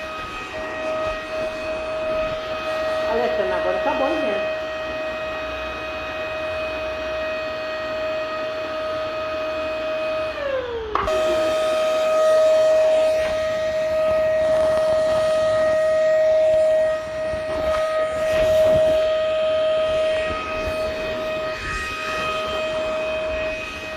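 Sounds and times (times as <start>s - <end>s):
vacuum cleaner motor whining: 0.0s - 23.9s.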